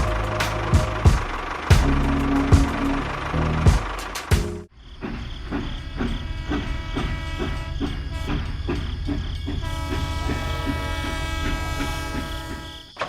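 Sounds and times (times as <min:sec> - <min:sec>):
steady whine: 0:00.0 - 0:12.6.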